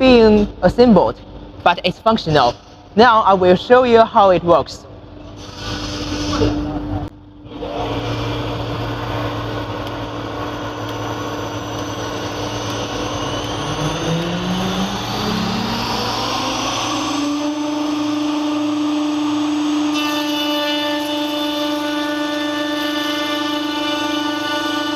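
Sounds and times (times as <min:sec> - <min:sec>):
machine motors humming: 0:04.9 - 0:24.9.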